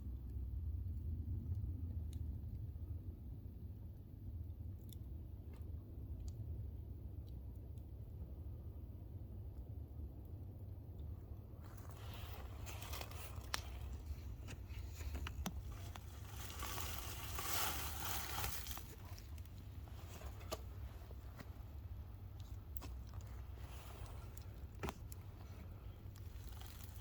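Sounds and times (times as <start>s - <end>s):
low rumble: 0.0s - 27.0s.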